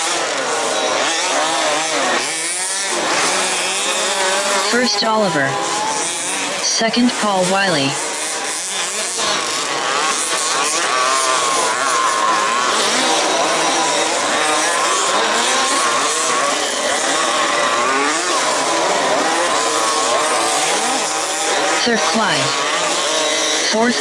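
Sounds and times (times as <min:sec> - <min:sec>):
small two-stroke engines buzzing: 0:00.0 - 0:24.0.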